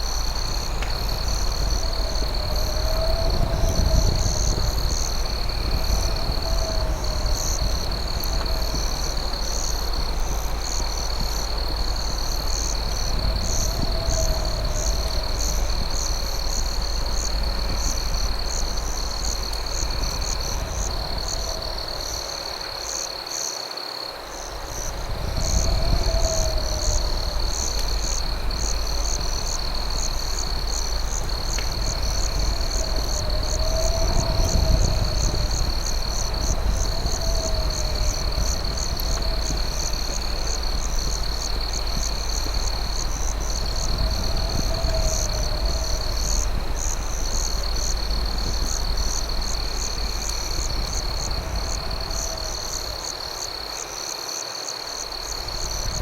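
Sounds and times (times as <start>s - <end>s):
continuous deep rumble: 0.0s - 23.4s, 24.1s - 53.8s, 55.0s - 56.0s
crickets trilling: 0.0s - 56.0s.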